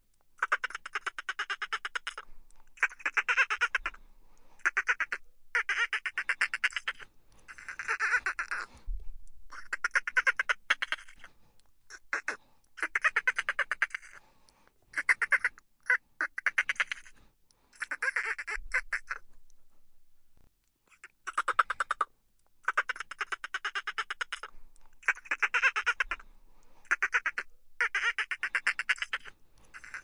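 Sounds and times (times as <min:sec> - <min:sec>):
dolphin clicking chatter: 0:00.4 - 0:02.2, 0:02.8 - 0:04.0, 0:04.6 - 0:08.7, 0:09.5 - 0:14.2, 0:14.9 - 0:17.2, 0:17.8 - 0:19.2, 0:20.9 - 0:26.2, 0:26.9 - 0:30.0.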